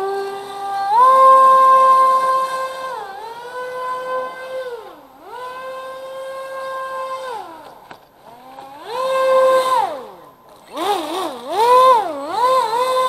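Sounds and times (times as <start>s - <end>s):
model airboat motor and propeller whining: 0.0s - 13.0s.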